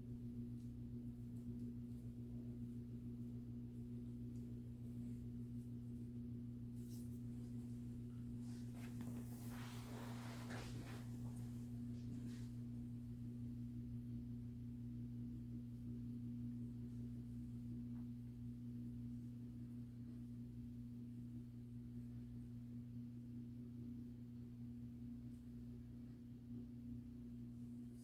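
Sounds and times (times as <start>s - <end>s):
steady low two-tone hum: 0.0s - 28.0s.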